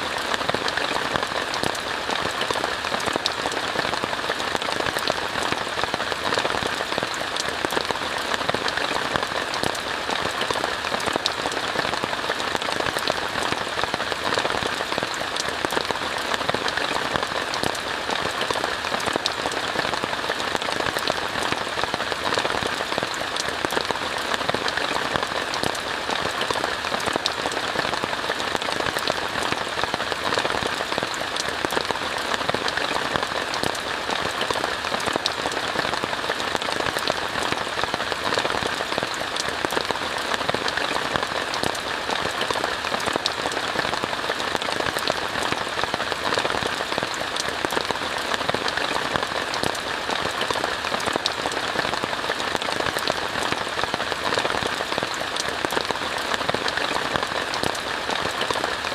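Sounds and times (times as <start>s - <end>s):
rain falling on a tent: 0.0s - 58.9s.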